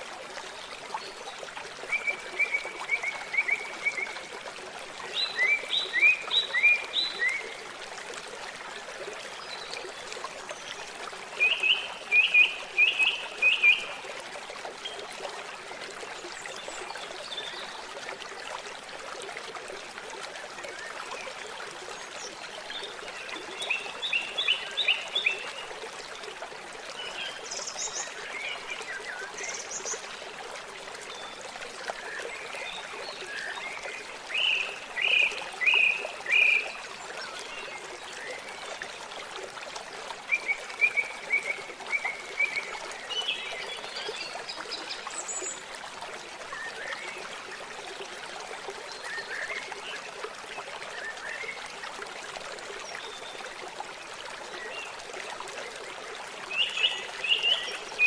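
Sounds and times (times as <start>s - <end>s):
running water trickling: 0.0s - 58.0s.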